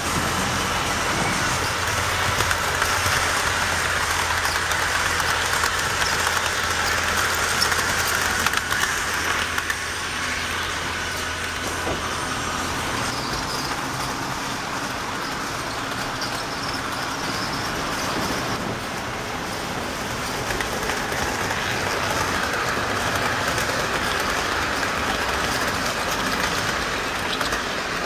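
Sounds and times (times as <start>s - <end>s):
model train motor hum: 0.0s - 28.0s
wheel noise on track: 0.0s - 28.0s.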